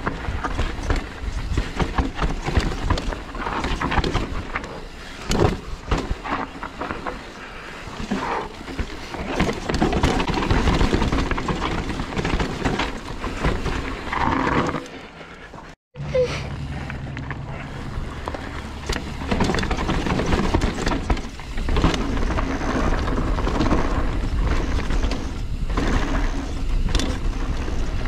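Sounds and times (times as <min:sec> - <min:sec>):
bike knocking and rattling: 0:00.0 - 0:15.8, 0:16.8 - 0:28.0
bike tyres rumbling over rocks: 0:00.0 - 0:15.8, 0:17.3 - 0:28.0.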